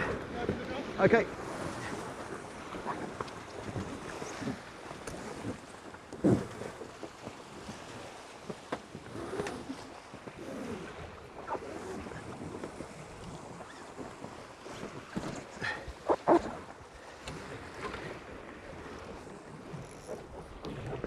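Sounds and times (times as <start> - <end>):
water rushing along hulls: 0.0 - 21.0.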